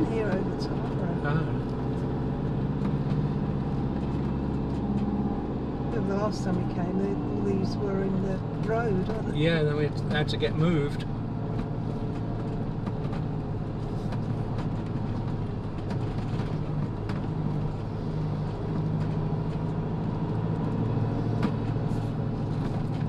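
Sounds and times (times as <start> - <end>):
motorhome engine droning: 0.0 - 23.0
road noise: 0.0 - 23.0.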